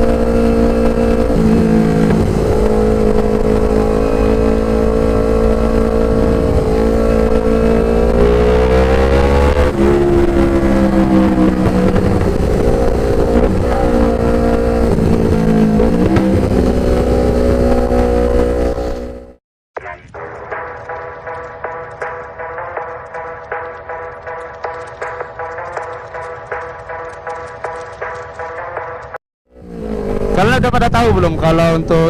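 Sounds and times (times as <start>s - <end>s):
motorcycle engine revving: 0.0s - 19.4s, 20.1s - 32.0s.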